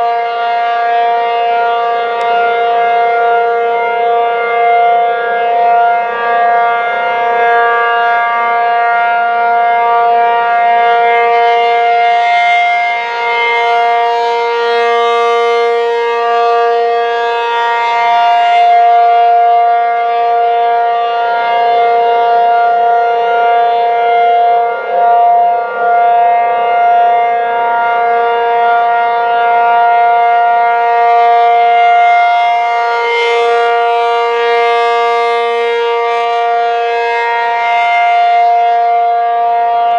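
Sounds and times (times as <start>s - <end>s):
two-note civil defense siren: 0.0s - 39.9s.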